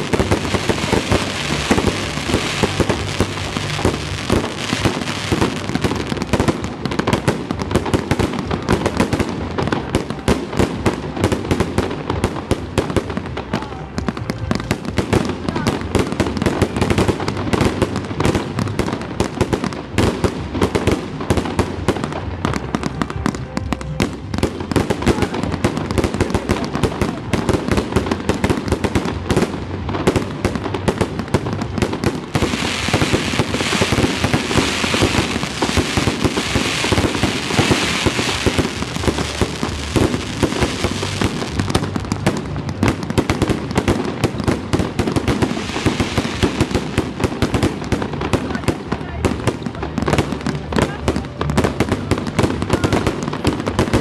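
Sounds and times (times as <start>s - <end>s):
fireworks bangs and pops: 0.0s - 54.0s
fireworks crackling hiss: 0.0s - 54.0s.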